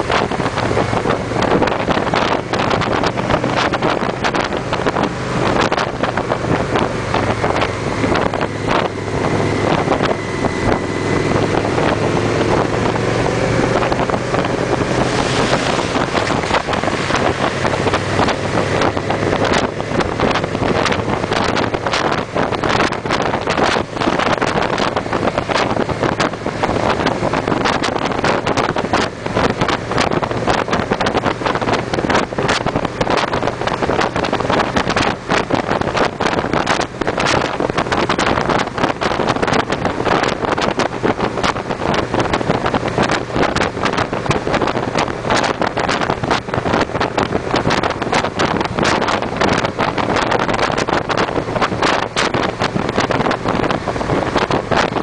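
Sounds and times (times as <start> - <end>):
motorcycle engines cruising: 0.0 - 55.0
wind buffeting on microphone: 0.0 - 55.0.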